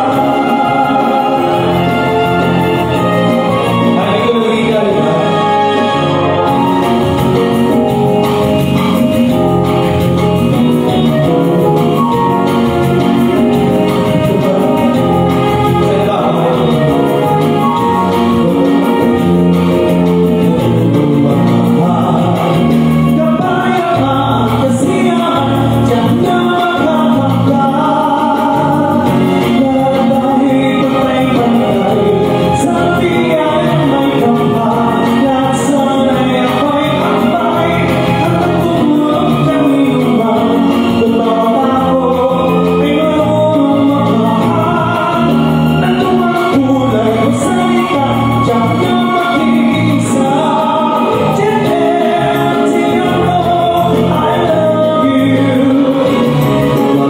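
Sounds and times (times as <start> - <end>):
backing music: 0.0 - 57.0
man singing into microphone: 0.0 - 57.0.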